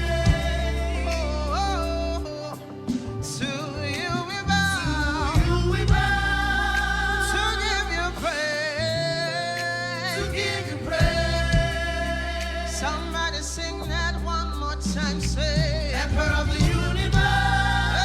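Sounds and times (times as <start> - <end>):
band bass and drums: 0.0 - 9.0, 9.6 - 18.0
choir voices: 0.0 - 15.3, 15.9 - 18.0
lead singer holding notes: 0.0 - 18.0.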